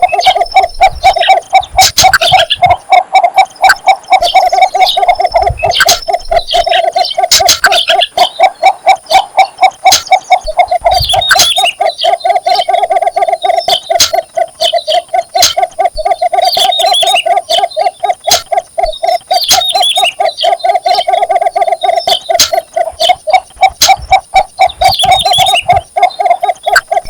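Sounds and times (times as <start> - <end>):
bittern calling low notes: 0.0 - 27.0.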